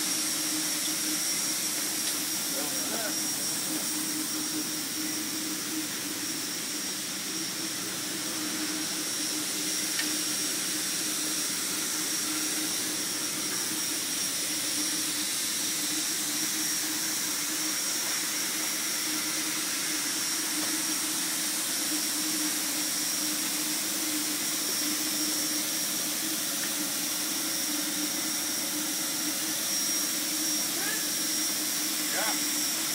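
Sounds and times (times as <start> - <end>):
machine hissing and humming: 0.0 - 32.9.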